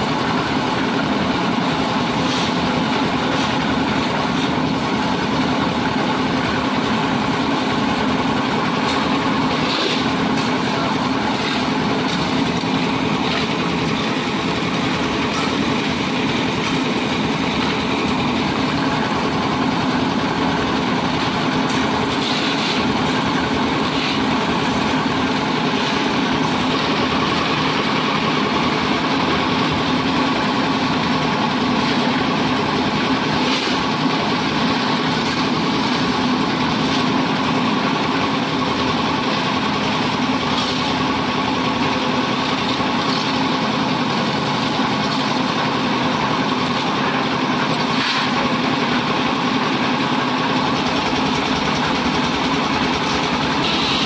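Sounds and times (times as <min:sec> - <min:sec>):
concrete mixer engine drone: 0:00.0 - 0:54.0.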